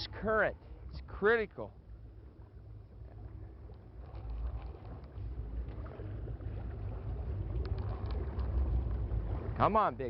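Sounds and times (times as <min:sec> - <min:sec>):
boat motor low rumble: 0:00.0 - 0:10.0.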